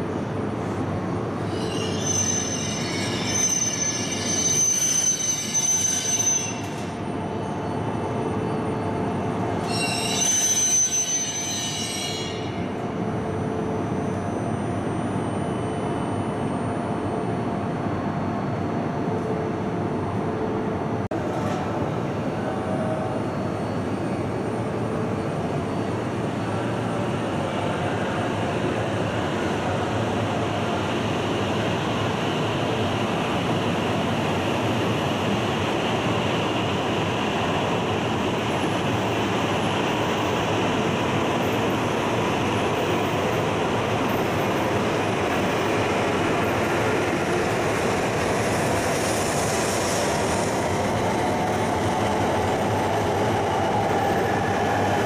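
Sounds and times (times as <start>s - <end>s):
train rumble and rush: 0.0s - 55.0s.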